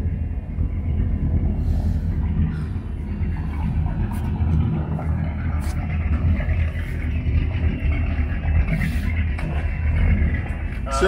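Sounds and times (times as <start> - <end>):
boat engines idling: 0.0 - 11.0.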